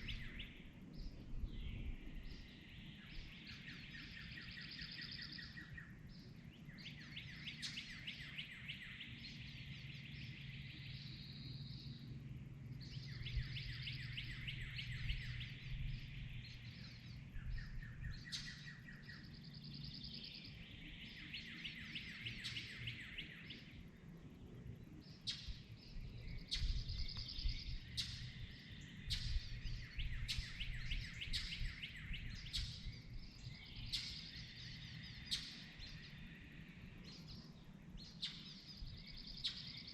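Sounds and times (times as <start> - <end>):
low steady hum: 0.0 - 39.9
songbirds trilling: 0.0 - 39.9.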